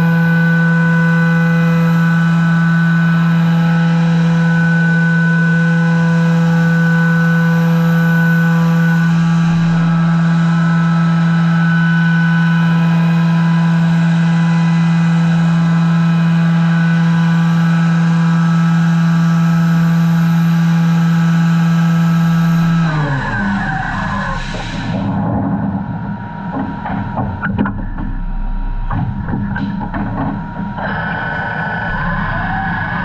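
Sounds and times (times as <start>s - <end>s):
mill spindle humming and whining: 0.0s - 33.0s.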